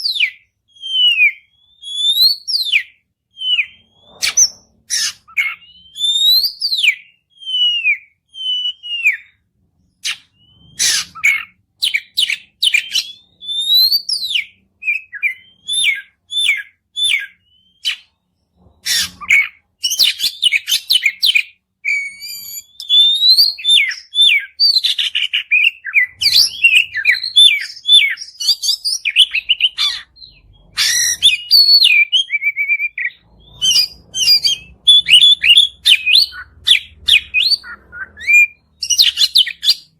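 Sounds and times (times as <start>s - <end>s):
bird singing whistled phrases: 0.0s - 9.4s, 10.0s - 18.1s, 18.9s - 39.9s.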